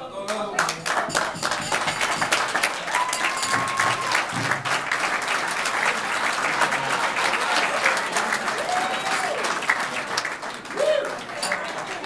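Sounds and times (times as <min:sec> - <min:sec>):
audience applauding: 0:00.5 - 0:12.0.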